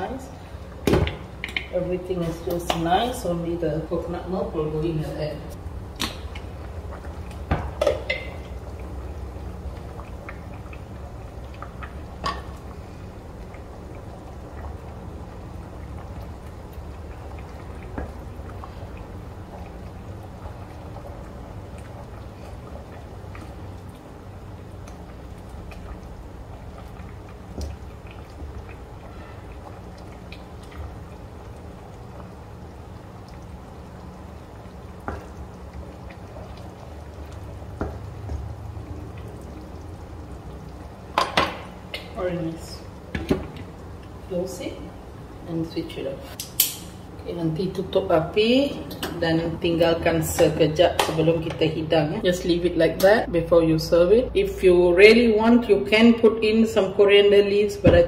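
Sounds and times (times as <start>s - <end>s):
curry simmering with pops: 0.0s - 4.9s, 5.5s - 52.0s
steady low hum: 0.0s - 58.0s.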